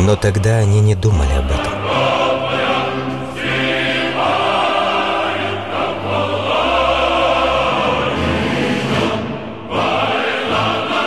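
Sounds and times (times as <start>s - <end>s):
choir singing sustained notes: 0.0s - 11.0s.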